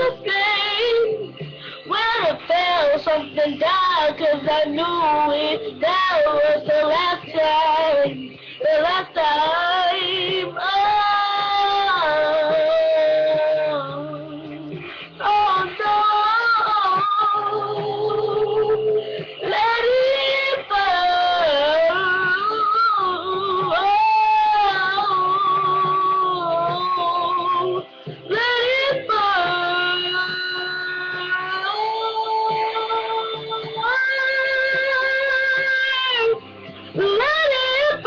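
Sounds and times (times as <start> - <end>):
backing music: 0.0 - 38.0.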